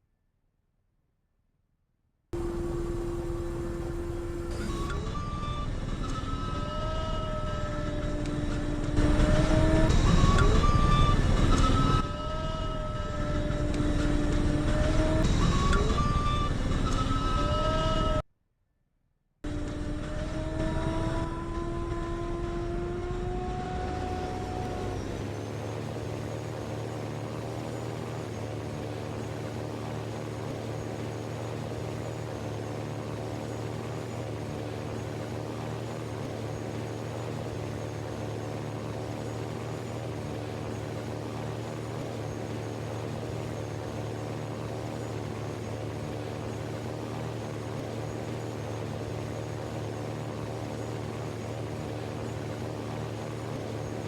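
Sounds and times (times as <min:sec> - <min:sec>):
engine drone: 0:02.4 - 0:18.2, 0:19.4 - 0:54.0.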